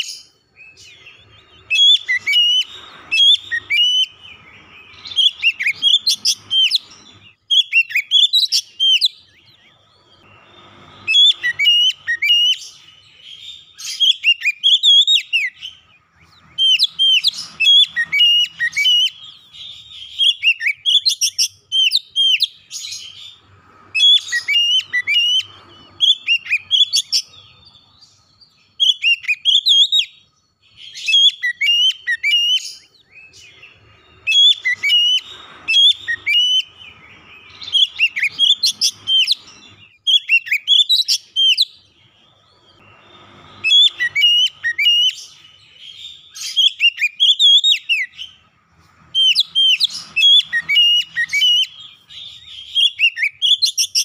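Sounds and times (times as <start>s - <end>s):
bird singing: 0.0s - 54.0s.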